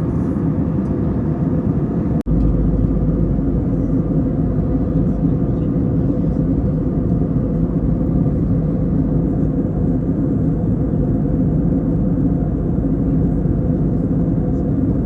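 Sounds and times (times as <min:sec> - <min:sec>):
jet cabin engine rumble: 0:00.0 - 0:15.0.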